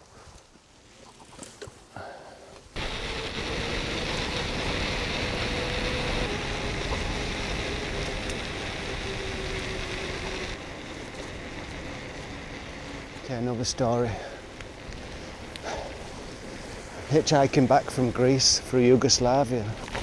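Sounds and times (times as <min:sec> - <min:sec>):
bike tyres rolling: 0:00.1 - 0:20.0.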